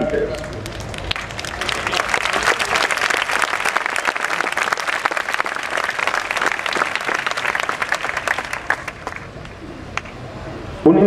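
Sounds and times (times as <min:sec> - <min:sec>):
crowd applauding: 0:00.3 - 0:10.1.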